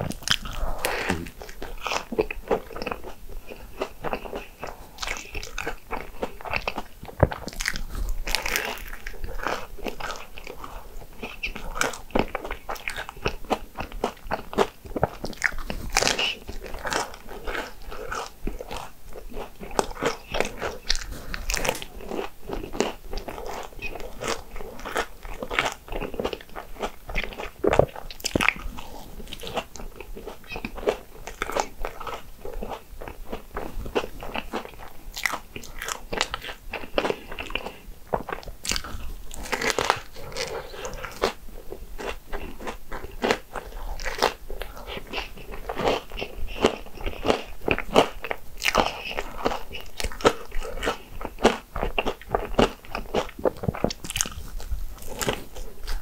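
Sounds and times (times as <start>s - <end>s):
crunching on crispy waffle: 0.0s - 56.0s.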